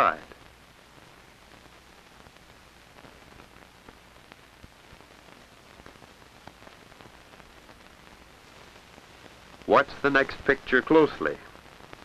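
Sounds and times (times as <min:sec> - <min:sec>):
film soundtrack surface hiss: 0:00.0 - 0:12.0
small clicks and crackles: 0:00.2 - 0:12.0.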